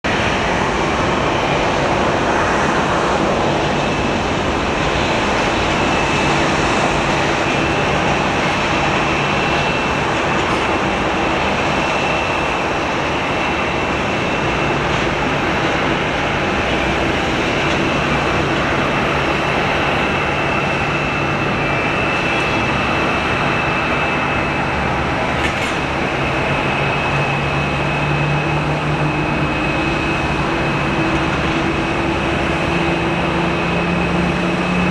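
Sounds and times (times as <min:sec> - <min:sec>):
jet engines rumbling and whining: 0:00.0 - 0:34.9.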